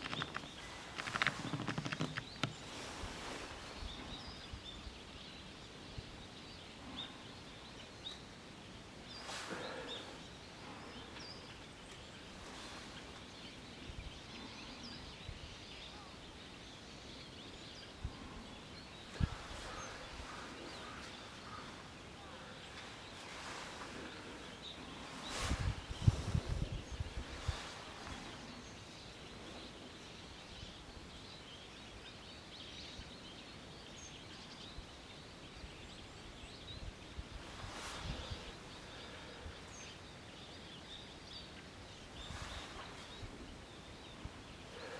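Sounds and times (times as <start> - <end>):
faint hiss: 0.0 - 44.9.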